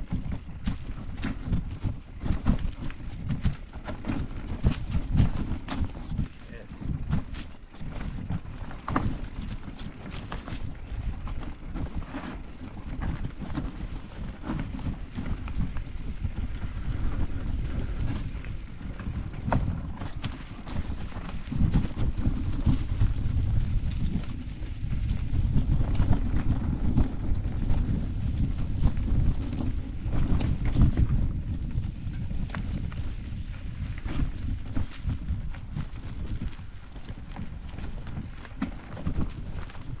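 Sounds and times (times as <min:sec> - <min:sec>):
bike rattling: 0:00.0 - 0:40.0
bike tyres crunching on trail: 0:00.0 - 0:40.0
wind rumble on microphone: 0:00.0 - 0:40.0.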